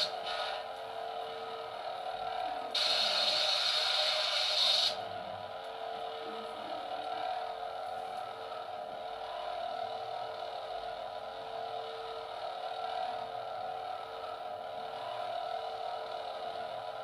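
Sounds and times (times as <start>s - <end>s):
toy lightsaber electronic hum: 0.0s - 17.0s.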